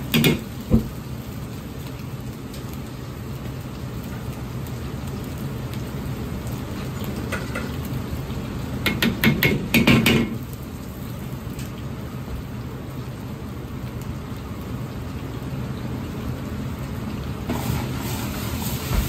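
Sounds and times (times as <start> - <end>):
gas burner running: 0.0 - 19.0
meat sizzling in hot oil: 0.0 - 19.0.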